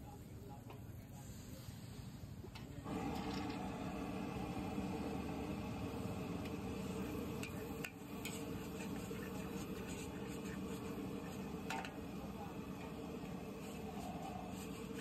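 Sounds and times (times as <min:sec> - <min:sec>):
noodles sizzling in a wok: 0:02.9 - 0:15.0.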